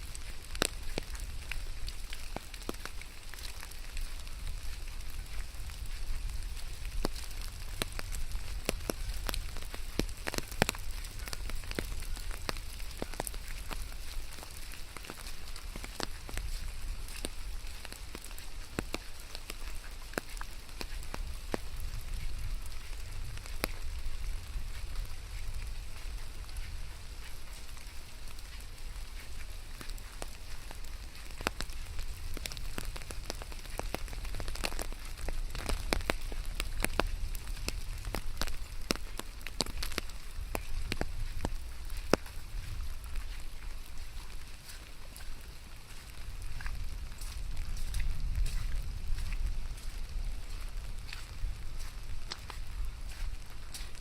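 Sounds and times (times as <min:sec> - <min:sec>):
rain patter: 0:00.0 - 0:54.0
raindrops ticking close by: 0:00.0 - 0:54.0.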